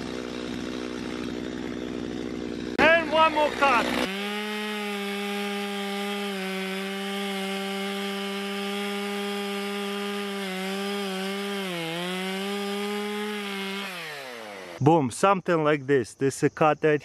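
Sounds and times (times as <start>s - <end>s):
chainsaw cutting wood: 0.0s - 14.8s.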